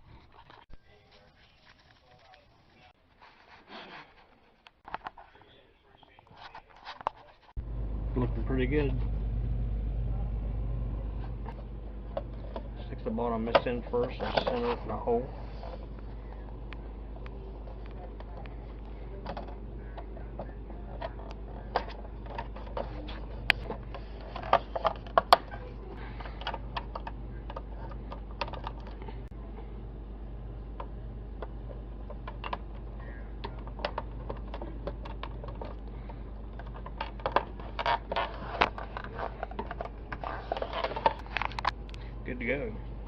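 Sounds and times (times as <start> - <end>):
steady low hum: 7.5 - 43.0.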